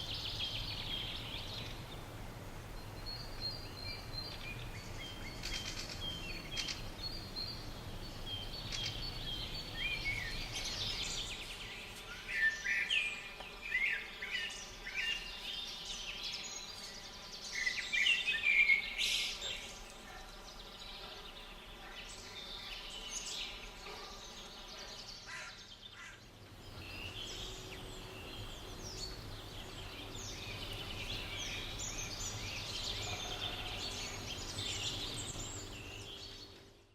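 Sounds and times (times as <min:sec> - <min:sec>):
low outdoor background noise: 0:00.0 - 0:36.9
small birds singing: 0:00.0 - 0:36.9.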